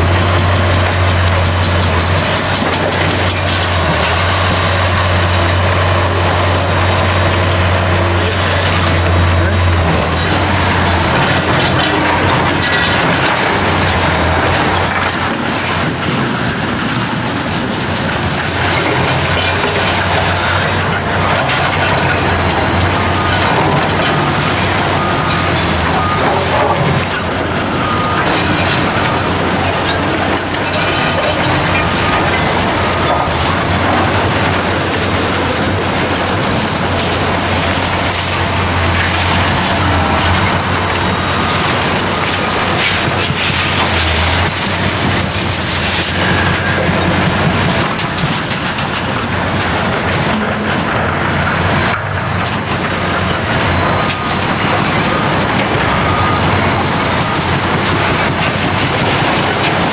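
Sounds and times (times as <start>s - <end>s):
concrete rubble scraping and clattering: 0.0s - 59.9s
excavator diesel engine running: 0.0s - 59.9s.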